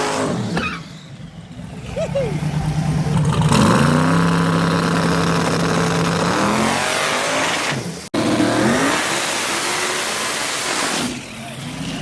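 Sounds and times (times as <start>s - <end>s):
engine at full throttle: 0.0s - 12.0s
engine revving: 1.2s - 12.0s.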